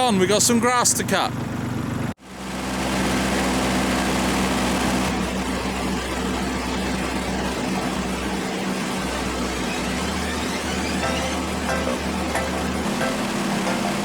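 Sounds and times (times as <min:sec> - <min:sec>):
tractor diesel engine running: 0:00.1 - 0:09.6, 0:11.0 - 0:14.0.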